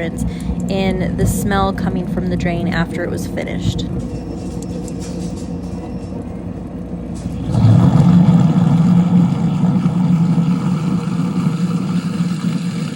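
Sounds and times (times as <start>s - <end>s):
garbage disposal motor running: 0.0s - 12.9s.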